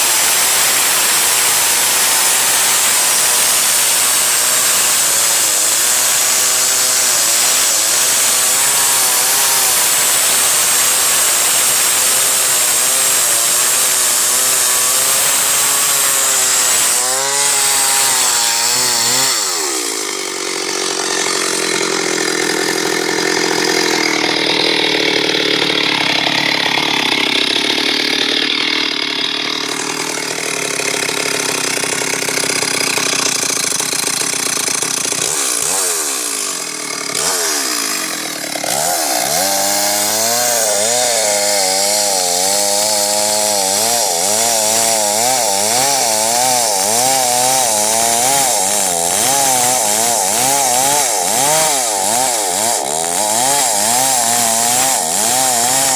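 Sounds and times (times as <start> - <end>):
chainsaw cutting tree: 0.0 - 55.9.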